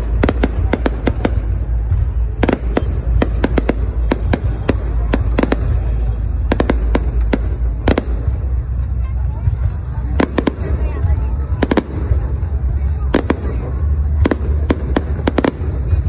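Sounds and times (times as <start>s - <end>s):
fireworks bangs: 0.0s - 16.0s
steady low rumble: 0.0s - 16.0s.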